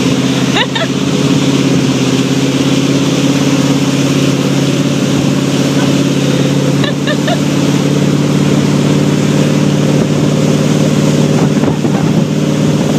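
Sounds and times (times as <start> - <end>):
churning wake rushing: 0.0 - 12.9
motorboat engine running: 0.0 - 12.9.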